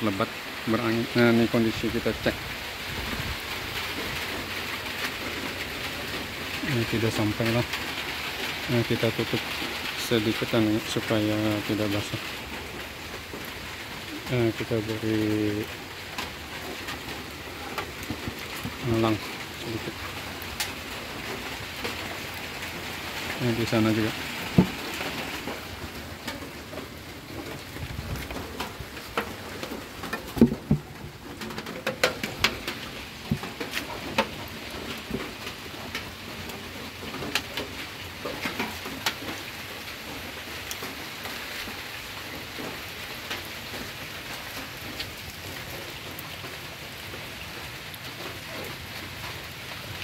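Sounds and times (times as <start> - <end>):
sharp drips and knocks: 0.0 - 50.0
steady rain falling: 0.0 - 50.0.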